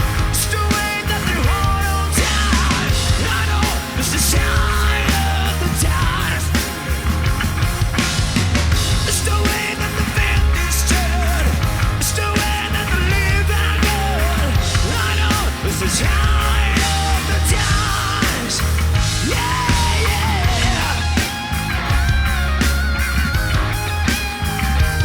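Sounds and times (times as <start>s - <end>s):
electric guitar lead bending notes: 0.0s - 25.0s
hard rock band playing: 0.0s - 25.0s.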